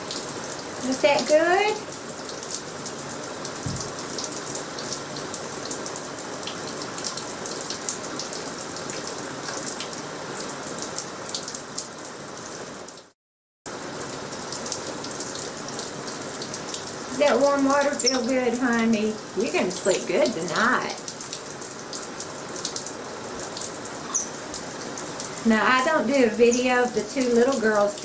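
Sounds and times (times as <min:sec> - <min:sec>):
shower water running: 0:00.0 - 0:13.1, 0:13.7 - 0:28.0.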